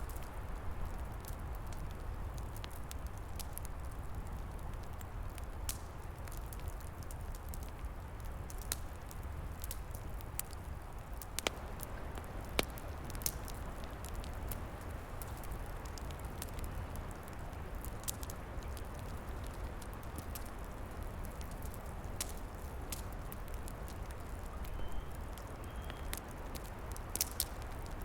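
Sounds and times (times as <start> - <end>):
wood fire crackling: 0.0 - 28.0
sharp fire pops: 1.0 - 28.0.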